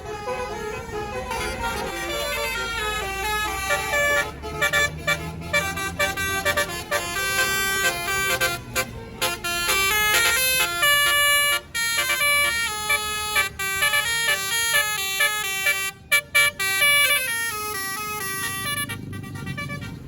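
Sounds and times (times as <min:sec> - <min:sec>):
bus engine running: 0:00.0 - 0:20.0
musical air horn tune: 0:00.0 - 0:20.0.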